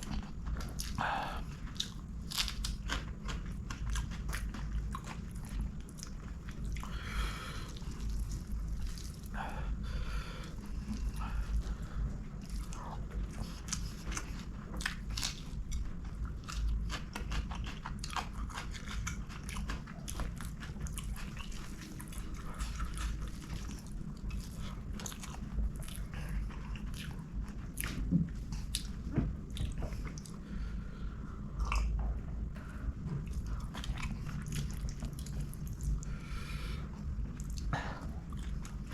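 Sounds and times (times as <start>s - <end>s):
person chewing crunchy food: 0.0s - 30.7s, 31.4s - 32.2s, 32.8s - 38.9s.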